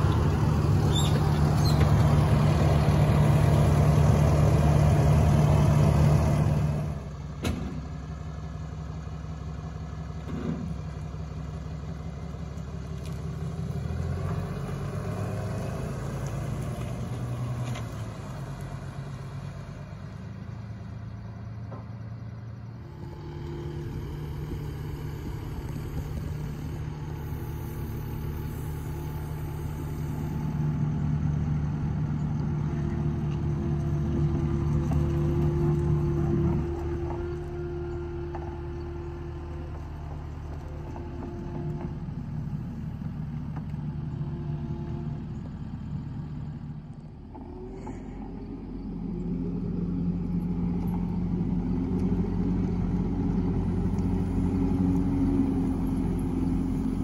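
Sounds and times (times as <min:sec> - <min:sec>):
pickup truck engine pulling out: 0:00.0 - 0:09.1, 0:09.7 - 0:22.0, 0:22.6 - 0:57.0
diesel engine idling: 0:00.0 - 0:57.0.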